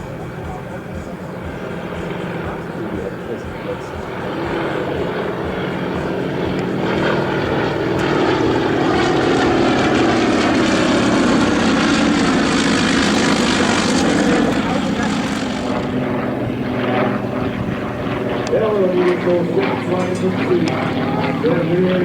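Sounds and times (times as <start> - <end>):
propeller aircraft engine: 0.0 - 22.0.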